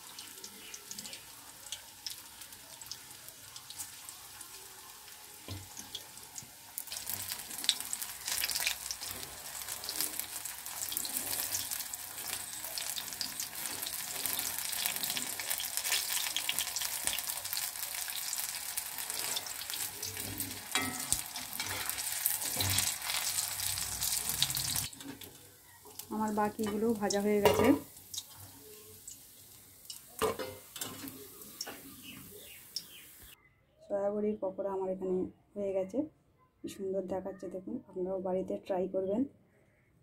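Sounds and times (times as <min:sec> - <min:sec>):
deep-frying sizzle in oil: 0:00.0 - 0:33.4.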